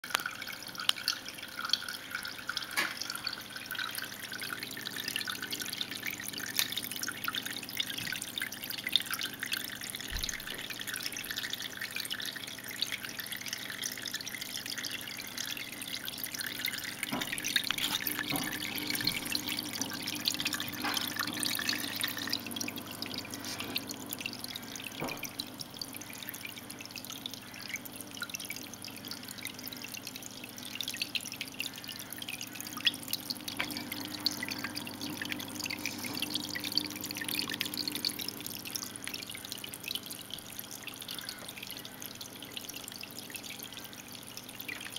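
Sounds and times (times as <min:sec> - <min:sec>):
small drips and splashes: 0:00.0 - 0:44.9
water trickling down rock: 0:00.0 - 0:44.9.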